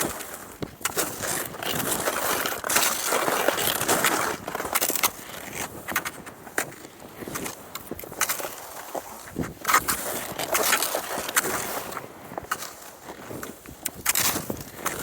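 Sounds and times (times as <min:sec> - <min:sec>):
skis scraping over snow: 0:00.0 - 0:15.0.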